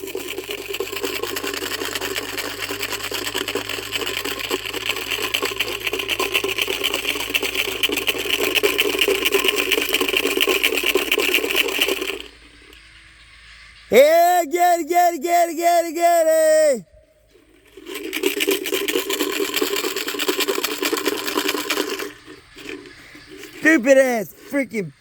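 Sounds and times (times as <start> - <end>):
guinea fowl rattling alarm call: 0.0 - 14.2, 17.1 - 25.0.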